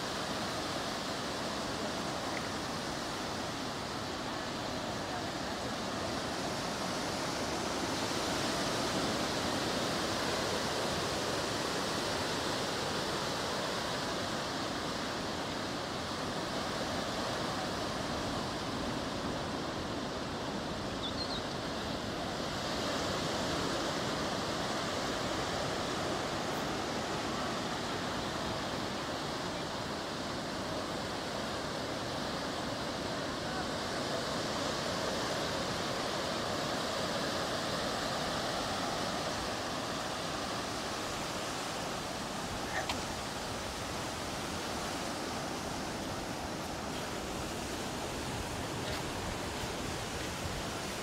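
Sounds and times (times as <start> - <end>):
waves breaking: 0.0 - 51.0.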